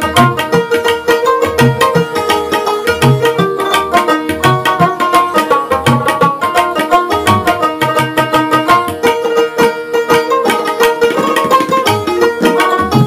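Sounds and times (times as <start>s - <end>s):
hand drum rhythm: 0.0s - 13.0s
plucked string instrument: 0.0s - 13.0s.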